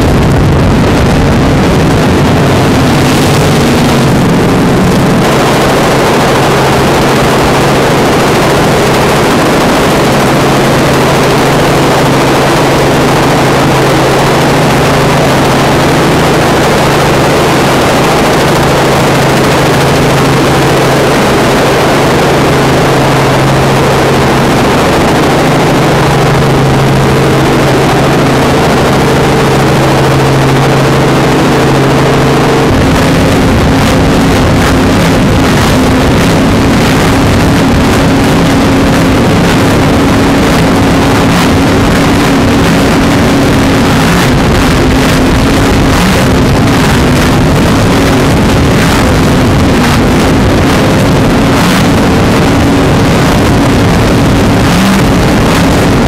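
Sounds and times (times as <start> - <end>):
motorboat engine drone: 0.0 - 56.0
powerboat running at speed: 0.0 - 56.0
wind buffeting microphone: 0.0 - 56.0.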